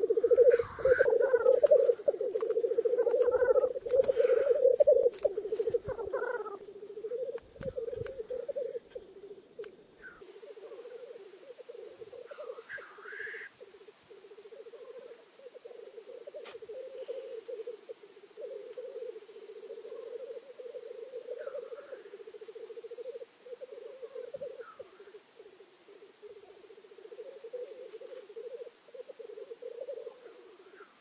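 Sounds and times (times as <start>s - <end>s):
grouse bubbling chorus: 0.0s - 30.7s
higher hissing bird calls: 0.0s - 31.0s.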